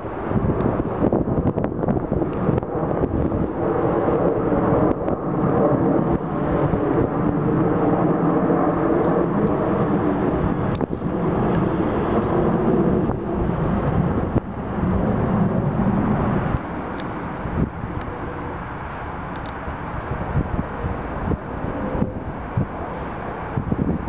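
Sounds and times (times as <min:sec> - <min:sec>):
jet airliners passing overhead: 0:00.0 - 0:24.0.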